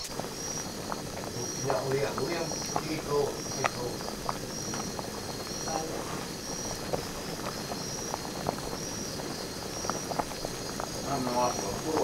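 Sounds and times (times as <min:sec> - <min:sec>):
high insect chirp: 0:00.0 - 0:12.0
soup boiling and bubbling: 0:00.0 - 0:12.0.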